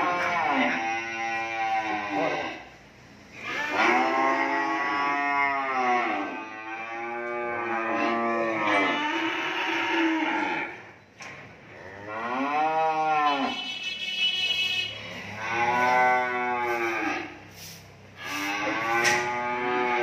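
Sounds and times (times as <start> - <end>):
cattle mooing: 0.0 - 2.7, 3.3 - 10.9, 11.7 - 13.7, 14.9 - 17.4, 18.2 - 20.0.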